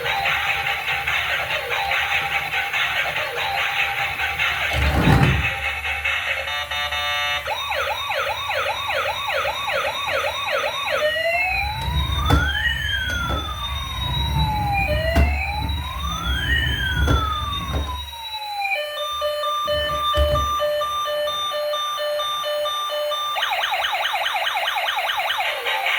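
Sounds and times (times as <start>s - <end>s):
emergency vehicle siren: 0.0s - 25.9s.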